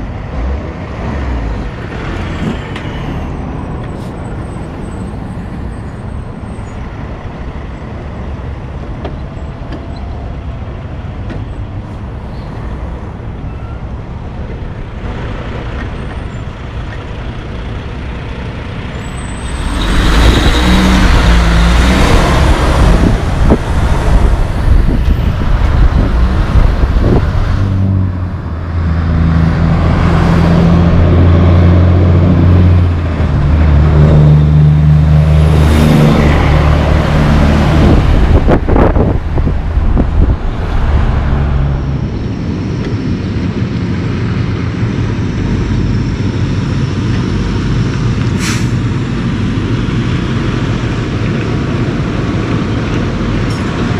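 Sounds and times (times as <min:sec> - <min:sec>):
heavy diesel trucks passing: 0:00.0 - 0:53.9.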